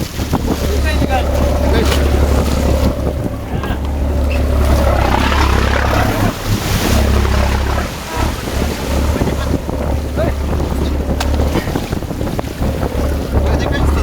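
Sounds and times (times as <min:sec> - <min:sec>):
deep steady rumble: 0:00.0 - 0:14.0
water washing and hissing: 0:00.0 - 0:14.0
wind buffeting microphone: 0:00.0 - 0:14.0.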